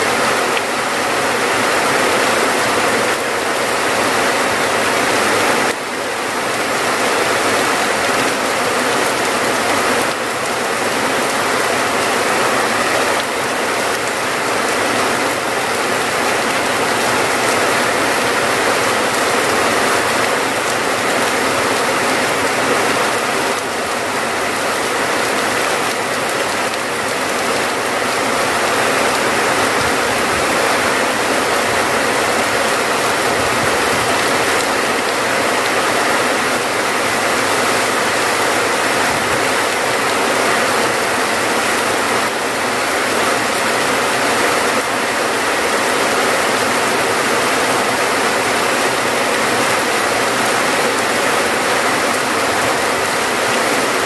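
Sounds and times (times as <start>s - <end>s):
heavy rain patter: 0.0s - 54.0s.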